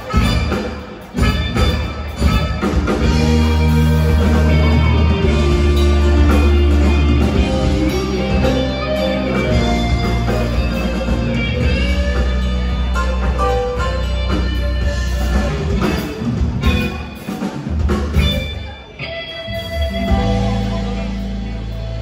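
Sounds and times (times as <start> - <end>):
heavy bass line: 0.0 - 17.2, 19.4 - 22.0
drums: 0.0 - 22.0
electric guitars: 0.0 - 22.0
keyboard: 0.0 - 22.0.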